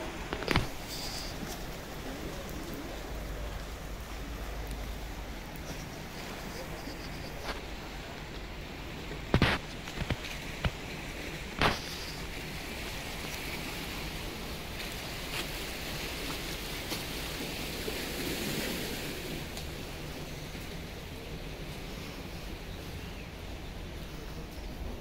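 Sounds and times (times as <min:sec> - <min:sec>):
surf on rocky shore: 0:00.0 - 0:25.0
wind: 0:00.0 - 0:25.0.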